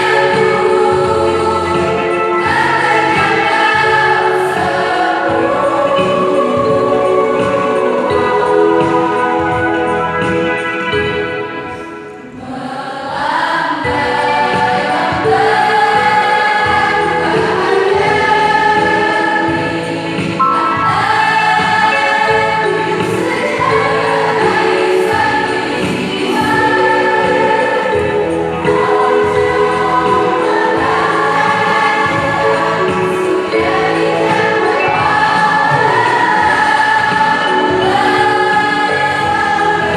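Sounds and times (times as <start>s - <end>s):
mixed choir singing: 0.0s - 39.9s.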